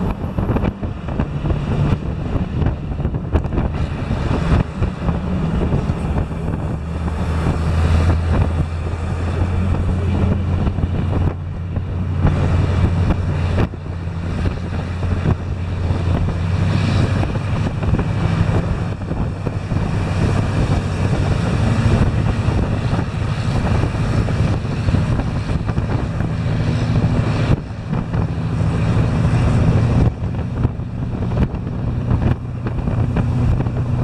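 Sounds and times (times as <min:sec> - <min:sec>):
car engine drone: 0:00.0 - 0:34.0
road noise: 0:00.0 - 0:34.0
wind on microphone: 0:00.0 - 0:34.0.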